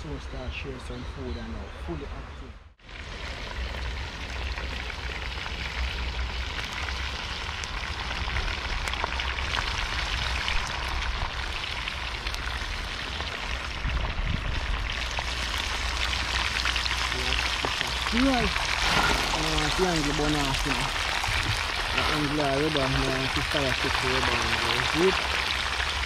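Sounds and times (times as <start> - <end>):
fish deep-frying in hot oil: 2.8 - 26.0.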